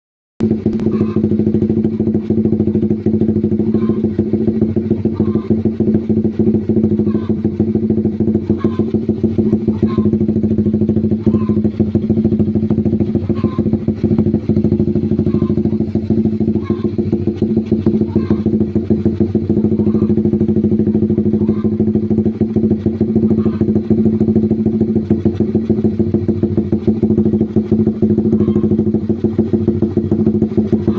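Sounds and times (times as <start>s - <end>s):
motorcycle idling: 0.4s - 30.9s.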